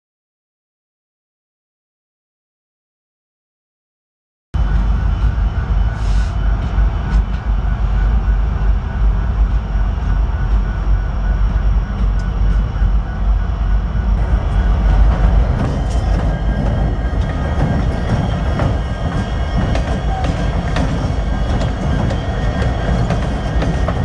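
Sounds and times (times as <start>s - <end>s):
diesel locomotives running by: 4.6s - 24.0s
rail noise rattling: 4.6s - 24.0s.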